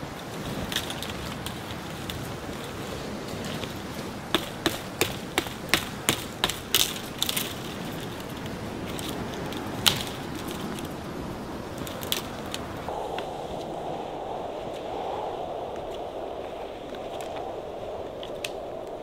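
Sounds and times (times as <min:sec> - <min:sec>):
dry branches snapping: 0:00.1 - 0:13.3, 0:16.8 - 0:19.0.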